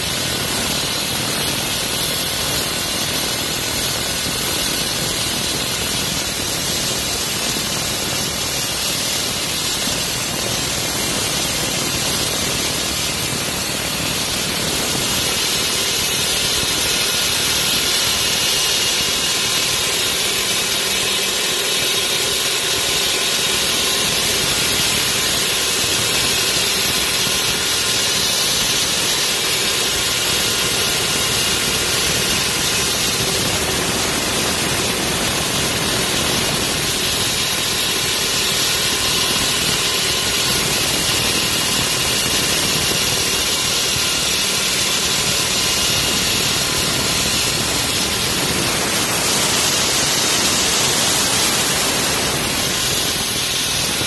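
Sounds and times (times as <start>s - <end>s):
concrete saw cutting concrete: 0.0s - 54.0s.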